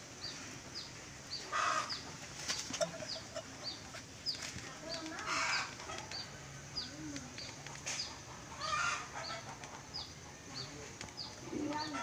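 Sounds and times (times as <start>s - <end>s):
chickens clucking: 0.2s - 12.0s
small bird chirping: 0.2s - 12.0s.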